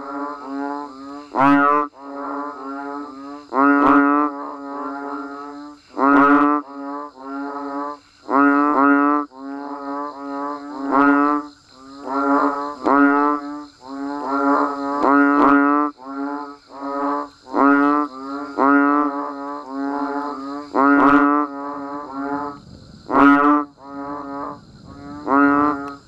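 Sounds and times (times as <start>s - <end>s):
frogs calling: 0.0s - 26.0s.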